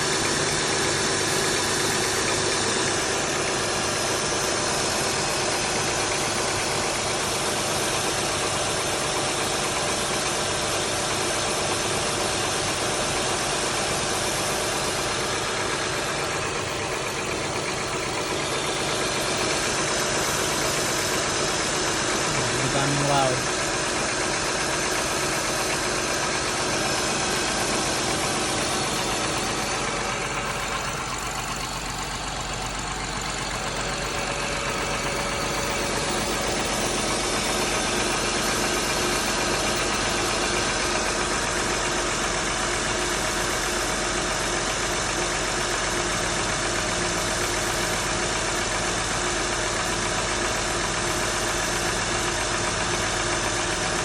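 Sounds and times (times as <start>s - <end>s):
car engine idling: 0.0s - 54.0s
engine knocking: 0.0s - 54.0s.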